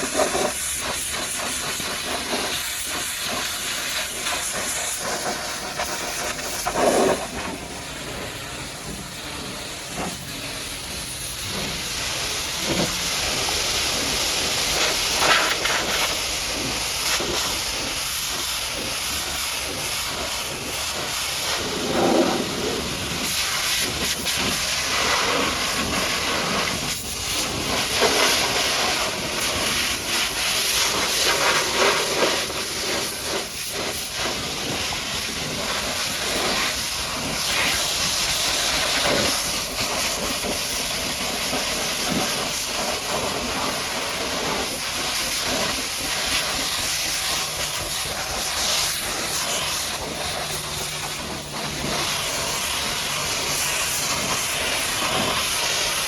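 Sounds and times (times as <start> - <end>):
pressure washer spraying: 0.0 - 56.0.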